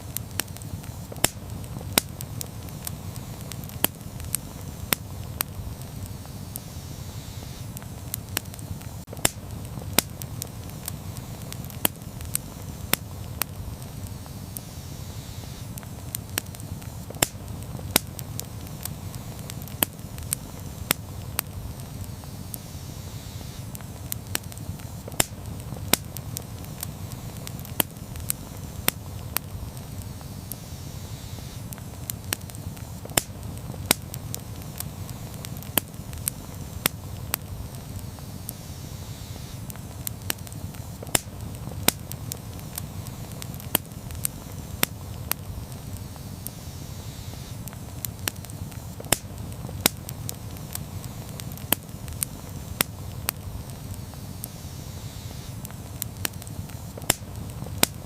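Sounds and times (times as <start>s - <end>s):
low rumble of flame: 0.0s - 58.0s.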